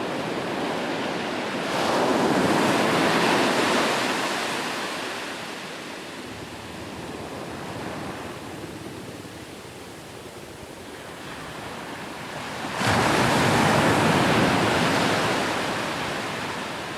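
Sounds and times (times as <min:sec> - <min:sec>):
ocean waves breaking on shore: 0:00.0 - 0:09.7, 0:10.8 - 0:16.9.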